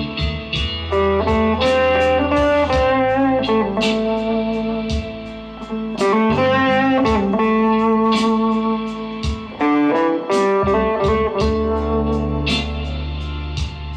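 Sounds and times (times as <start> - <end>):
electric guitar single notes: 0.0 - 13.9.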